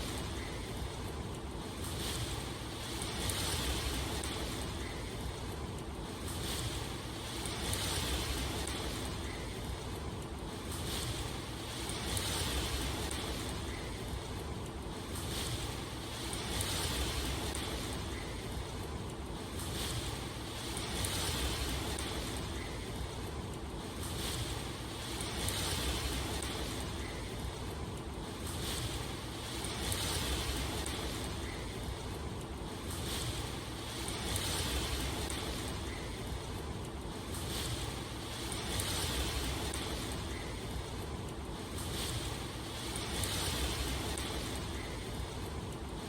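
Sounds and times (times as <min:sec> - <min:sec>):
rain hissing: 0:00.0 - 0:46.0.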